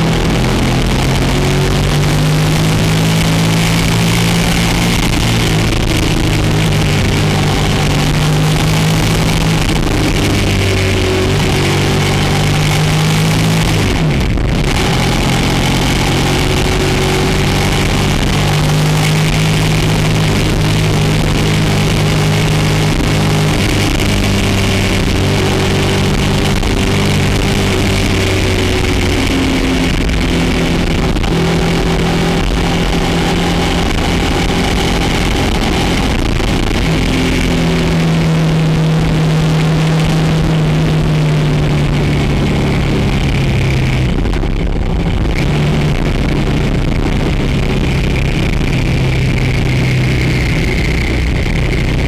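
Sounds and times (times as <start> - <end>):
motorcycle engine running: 0.0 - 52.0
rushing noise: 0.0 - 52.0.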